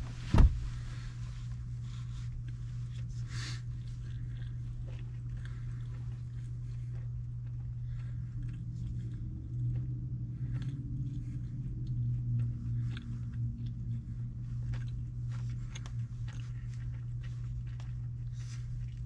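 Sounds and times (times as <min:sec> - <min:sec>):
low car cabin hum: 0:00.0 - 0:19.0
person chewing food: 0:01.1 - 0:19.0.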